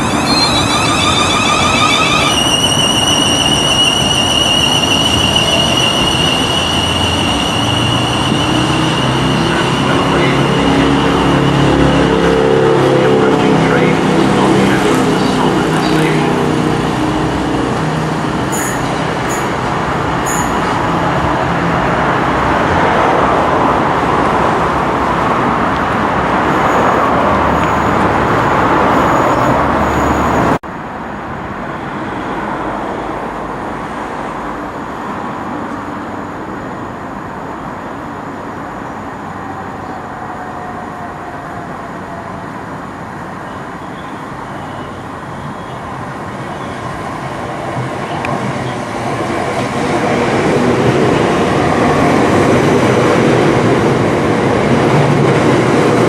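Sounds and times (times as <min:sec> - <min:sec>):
quieter steady train noise: 0:00.0 - 0:56.0
train passing: 0:00.0 - 0:56.0.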